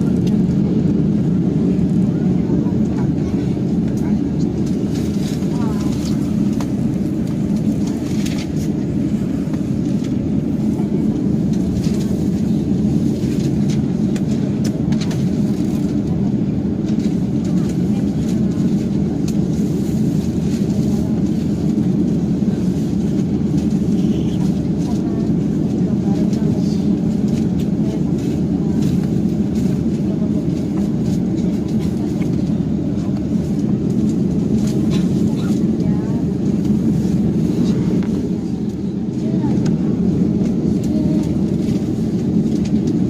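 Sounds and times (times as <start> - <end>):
airliner engine rumble in cabin: 0.0 - 43.0.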